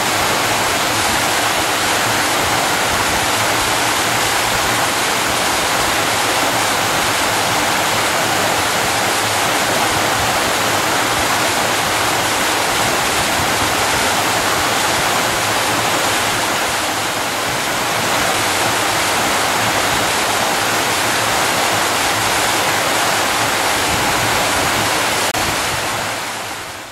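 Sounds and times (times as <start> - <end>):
waterfall rushing loudly: 0.0 - 26.9.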